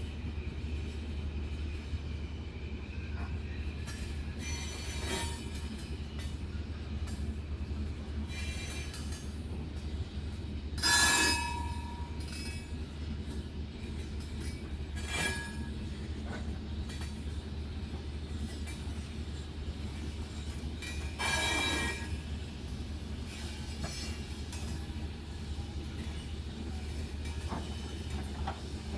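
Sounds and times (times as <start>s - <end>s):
freight train rumble: 0.0s - 28.9s.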